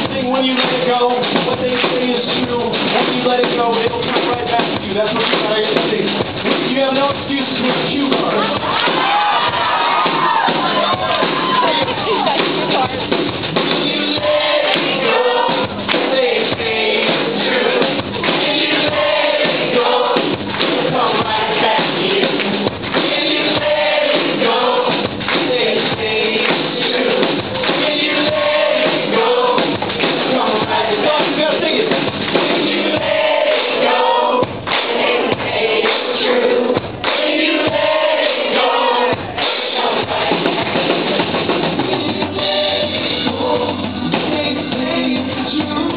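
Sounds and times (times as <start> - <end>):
drum beat: 0.0 - 45.9
live pop-rock band playing: 0.0 - 45.9
voices singing together: 0.0 - 45.9.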